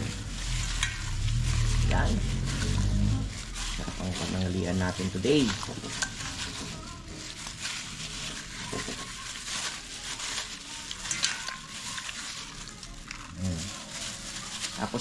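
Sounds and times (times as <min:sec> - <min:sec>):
soft stirring of meat: 0:00.0 - 0:15.0.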